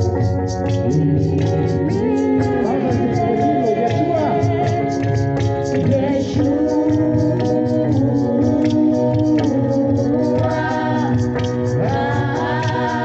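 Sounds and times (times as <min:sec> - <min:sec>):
steady drum beat: 0:00.0 - 0:13.0
sustained keyboard chords: 0:00.0 - 0:13.0
worship singing: 0:00.0 - 0:13.0.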